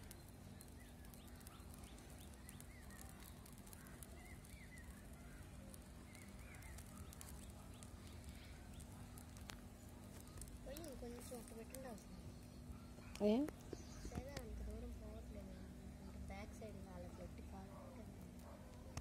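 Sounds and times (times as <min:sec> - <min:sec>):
faint bird chirps: 0:00.0 - 0:17.9
low steady hum: 0:00.0 - 0:19.0.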